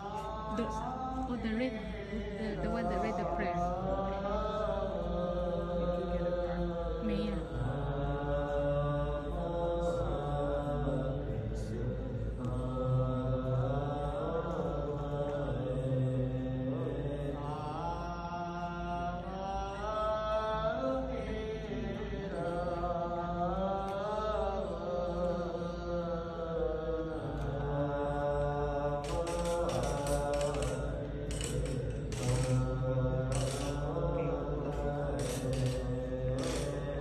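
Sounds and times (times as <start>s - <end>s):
melodic chanting: 0.0s - 37.0s
steady low hum: 0.0s - 37.0s.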